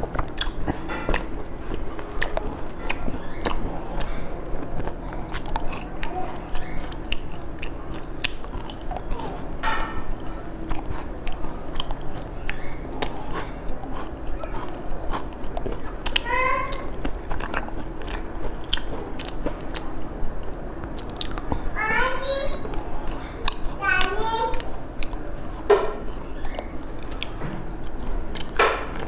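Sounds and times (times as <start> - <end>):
crunching and chewing pastries: 0.0 - 29.0.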